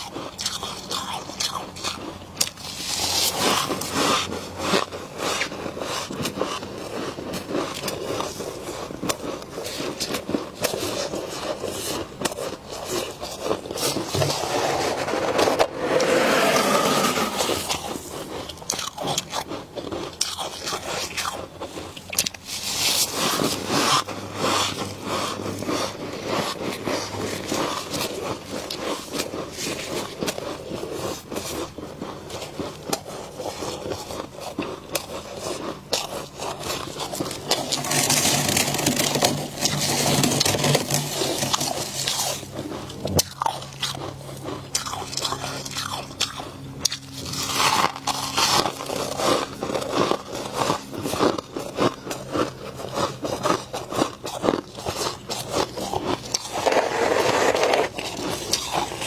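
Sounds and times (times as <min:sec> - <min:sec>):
crunching frost being chewed: 0:00.0 - 0:59.0.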